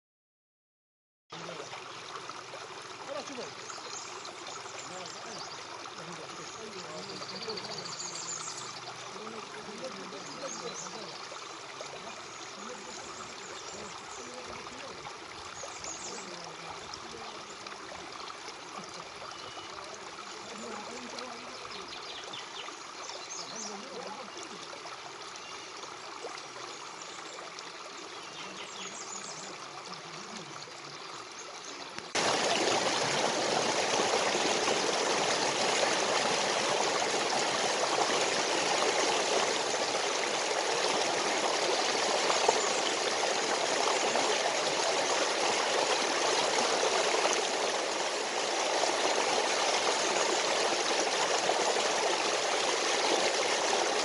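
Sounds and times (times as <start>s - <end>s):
stream water gurgling: 1.3s - 54.0s.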